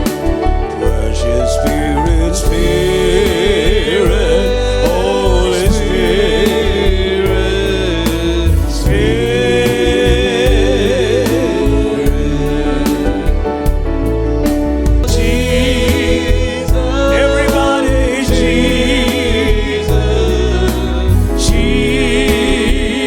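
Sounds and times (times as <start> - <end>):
worship band music: 0.0 - 23.0.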